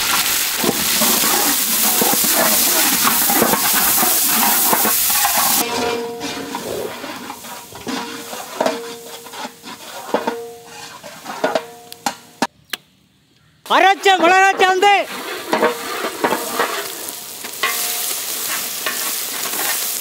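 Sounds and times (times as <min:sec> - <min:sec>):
onion sizzling in oil: 0:00.0 - 0:11.6, 0:14.3 - 0:20.0
ladle stirring and knocking pan: 0:00.0 - 0:12.5, 0:14.0 - 0:20.0.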